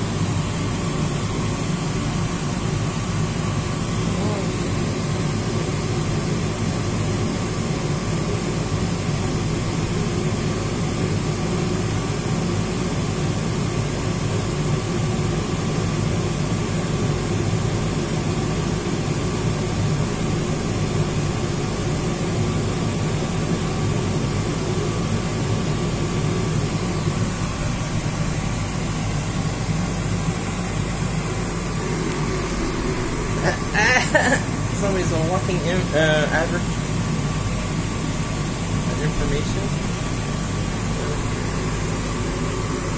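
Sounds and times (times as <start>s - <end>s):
mechanical hum and fan whir: 0.0s - 42.9s.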